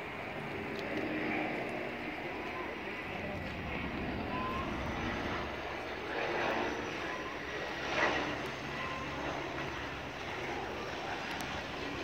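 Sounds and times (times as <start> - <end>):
propeller plane droning: 0.0 - 12.0.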